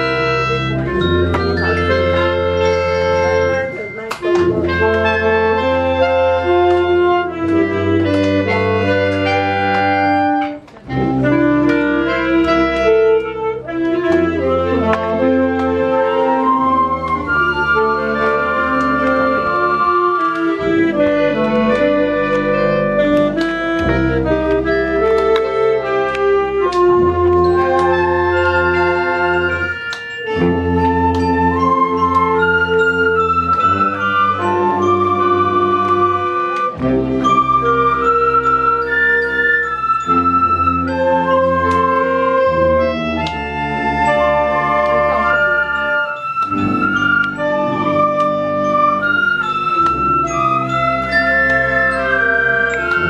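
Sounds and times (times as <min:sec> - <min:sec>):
low tuba bass line: 0:00.0 - 0:53.0
wind band playing held chords: 0:00.0 - 0:53.0.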